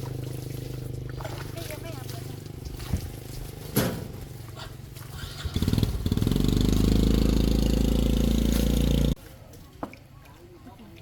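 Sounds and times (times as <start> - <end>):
small engine running: 0.0 - 9.2.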